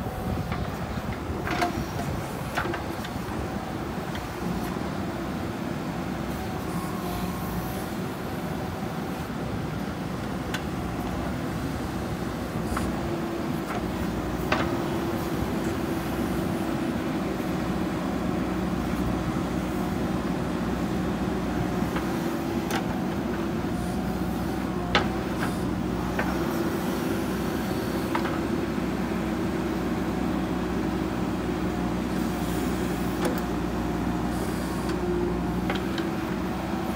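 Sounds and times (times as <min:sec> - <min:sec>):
diesel engine under hydraulic load: 0:00.0 - 0:36.9.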